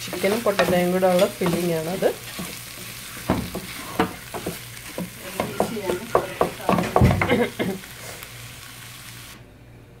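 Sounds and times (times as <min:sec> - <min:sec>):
spatula scraping a frying pan: 0:00.0 - 0:08.4
food sizzling: 0:00.0 - 0:09.5.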